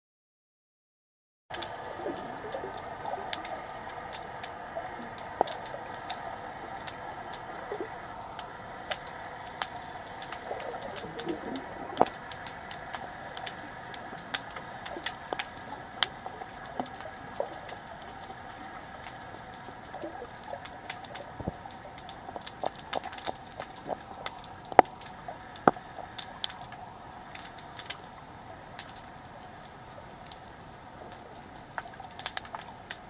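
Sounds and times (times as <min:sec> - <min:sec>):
sharp underwater clicks: 0:01.5 - 0:28.1, 0:28.8 - 0:33.0
steady hum and hiss: 0:01.5 - 0:33.0.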